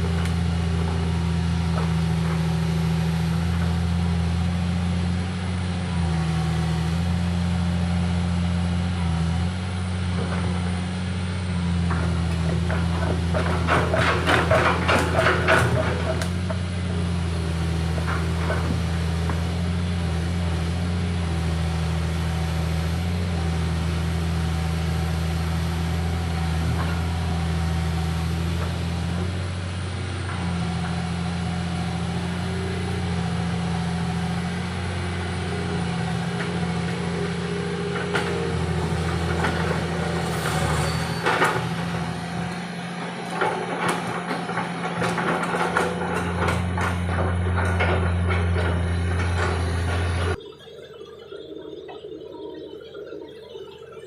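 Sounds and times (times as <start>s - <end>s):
diesel engine running: 0.0s - 50.5s.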